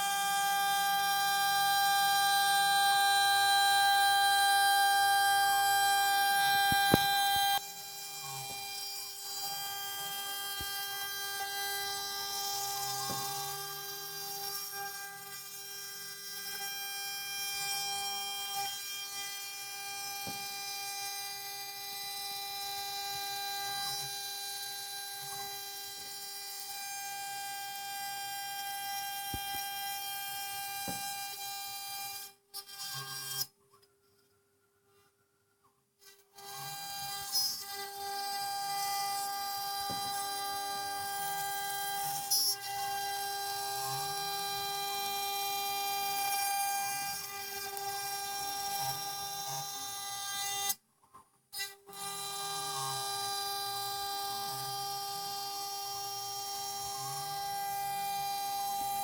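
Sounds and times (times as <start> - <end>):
router whining: 0.0 - 33.5, 36.0 - 50.8, 51.6 - 59.0.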